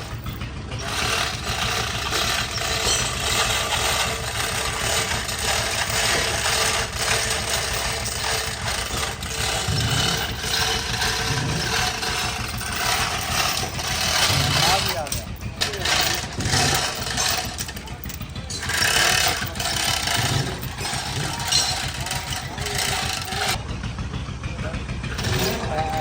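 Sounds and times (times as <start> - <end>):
engine idling with rattling: 0.0 - 26.0.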